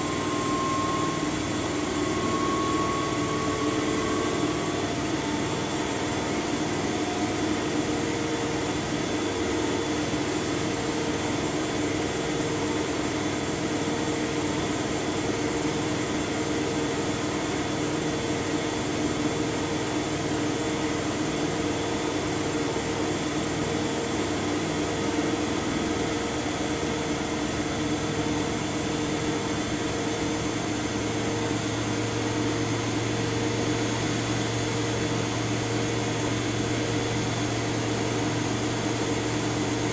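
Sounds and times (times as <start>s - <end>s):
washing machine motor whine: 0.0s - 39.9s.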